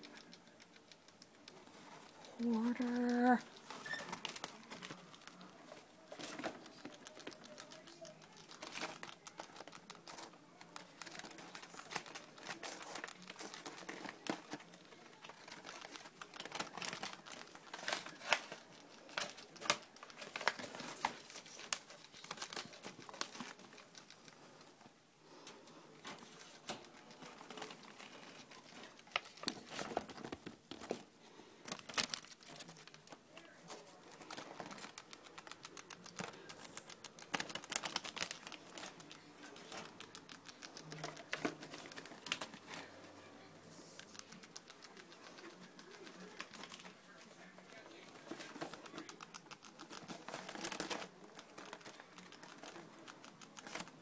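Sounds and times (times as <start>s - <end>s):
rat rustling in nesting material: 1.4s - 54.0s.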